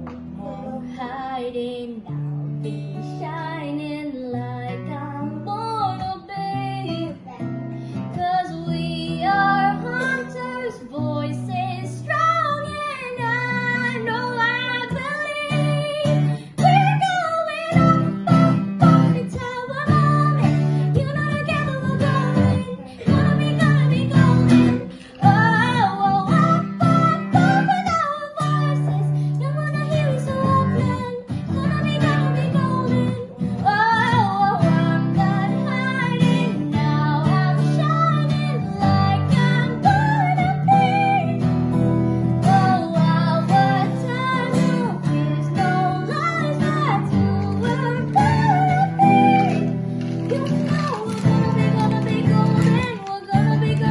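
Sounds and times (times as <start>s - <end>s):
acoustic guitar chords: 0.0s - 53.9s
girl singing: 0.0s - 53.9s.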